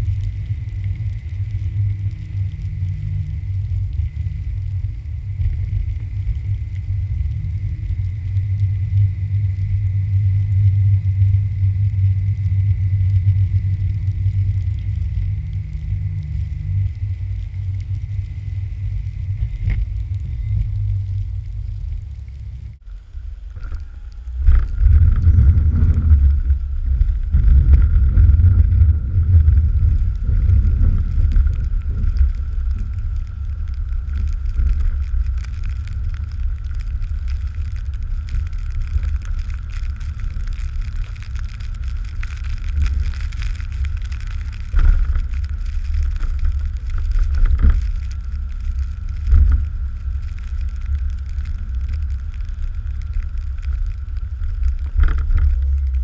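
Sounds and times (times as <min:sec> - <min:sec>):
heavy engine rumble with whine: 0:00.0 - 0:56.0.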